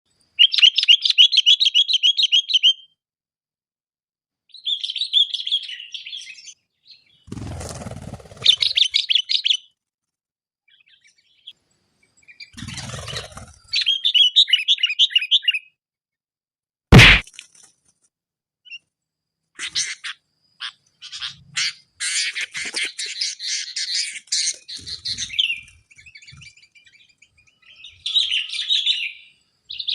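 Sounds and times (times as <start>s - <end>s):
bird chirping song: 0.1s - 3.0s, 4.4s - 9.8s, 10.6s - 15.8s, 18.6s - 29.9s.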